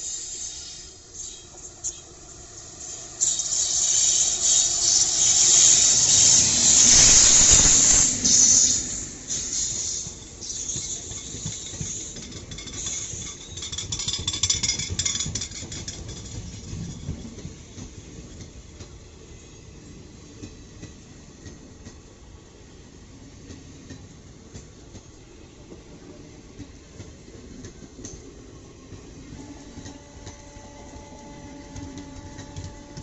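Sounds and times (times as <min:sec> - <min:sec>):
train wheels clattering on track: 0:03.1 - 0:22.2, 0:23.4 - 0:33.0.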